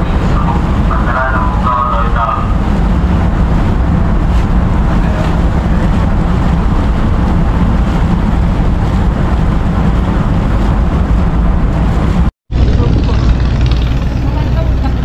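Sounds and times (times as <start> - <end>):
ship engine drone: 0.0 - 15.0
water rushing along hull: 0.0 - 15.0
wind buffeting microphone: 0.0 - 15.0.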